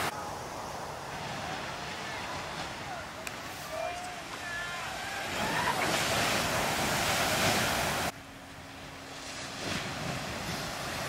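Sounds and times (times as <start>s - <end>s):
waves crashing: 0.0s - 11.0s.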